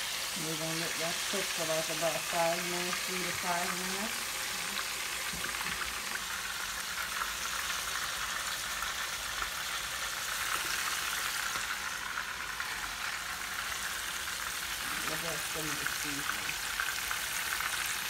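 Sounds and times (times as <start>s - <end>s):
chicken sizzling in hot oil: 0.0s - 18.0s
small oil crackles: 0.0s - 18.0s.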